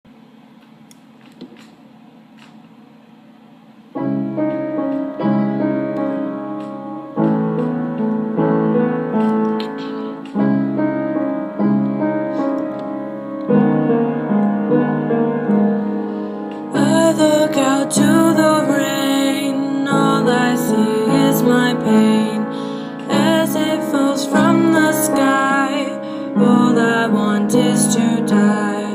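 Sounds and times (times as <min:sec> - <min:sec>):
piano playing slow chords: 0:03.9 - 0:28.9.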